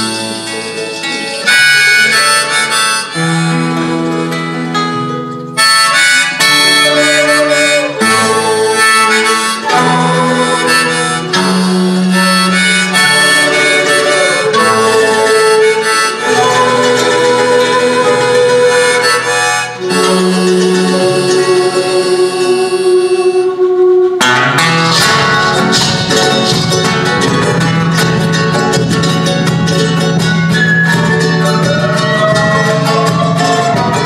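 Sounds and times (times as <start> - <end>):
strummed guitar: 0.0 - 34.0
wind instrument melody: 0.0 - 34.0.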